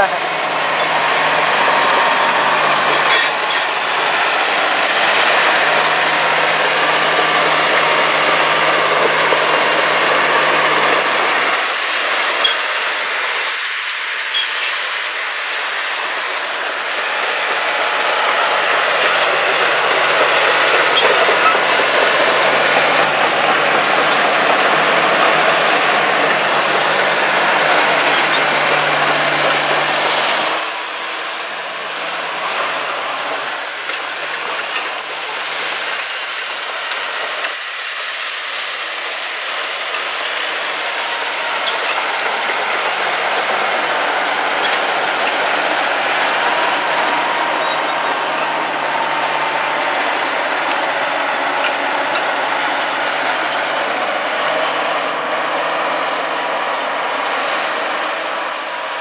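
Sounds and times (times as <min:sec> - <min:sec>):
excavator diesel engine running: 0:00.0 - 0:59.0
steel tracks clattering: 0:00.0 - 0:59.0.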